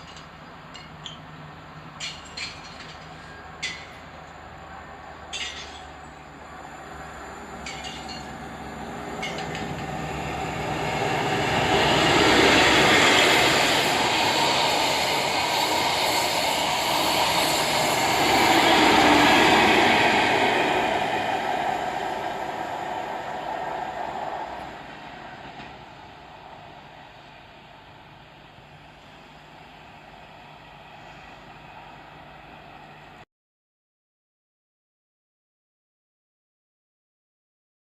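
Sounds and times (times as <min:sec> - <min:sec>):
train passing: 0:00.0 - 0:33.2.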